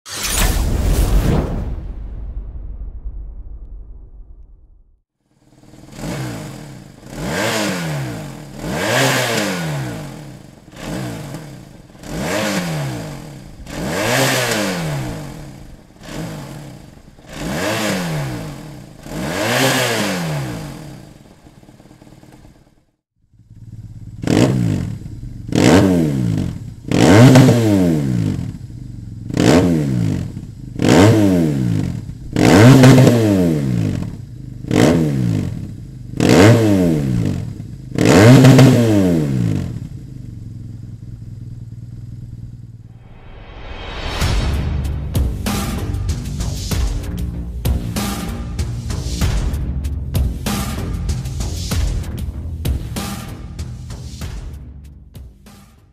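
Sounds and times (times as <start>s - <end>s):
motorcycle engine revving: 5.2s - 54.8s.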